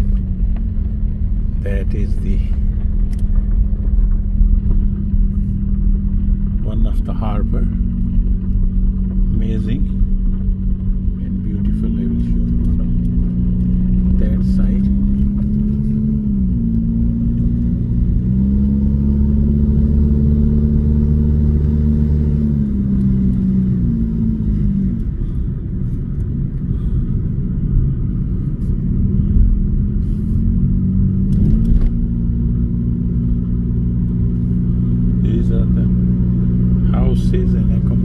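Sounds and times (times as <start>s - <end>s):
engine droning: 0.0s - 38.0s.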